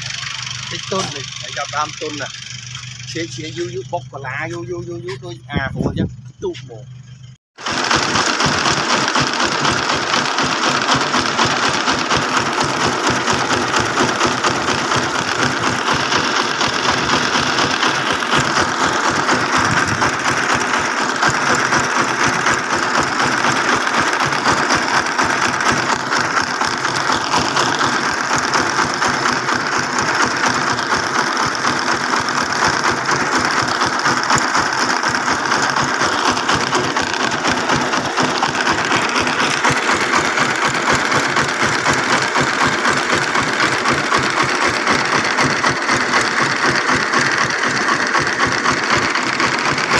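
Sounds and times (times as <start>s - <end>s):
truck engine chugging: 0.0s - 49.9s.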